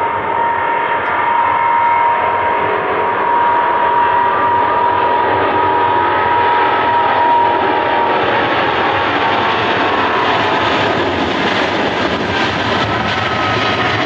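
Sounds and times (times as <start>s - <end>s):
jet engines at takeoff thrust: 0.0s - 14.0s.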